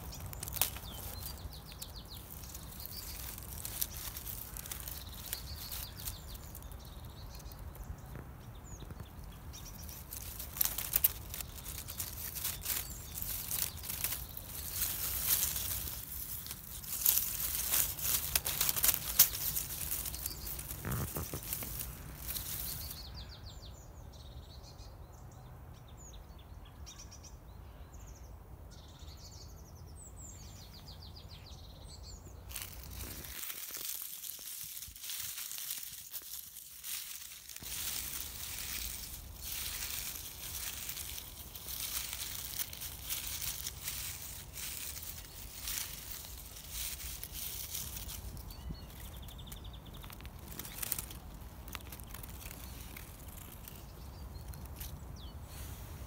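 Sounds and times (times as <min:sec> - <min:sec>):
dry leaves rustling: 0:00.0 - 0:23.5, 0:32.0 - 0:56.0
small birds chirping: 0:00.0 - 0:56.0.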